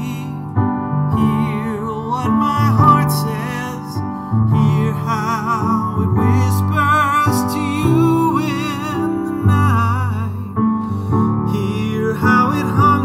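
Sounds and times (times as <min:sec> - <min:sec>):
grand piano chords: 0:00.0 - 0:13.0
man singing with vibrato: 0:00.0 - 0:13.0.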